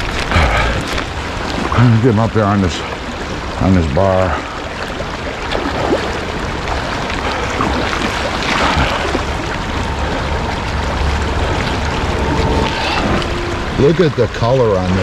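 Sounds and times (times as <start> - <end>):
creek water rushing and splashing: 0.0 - 15.0.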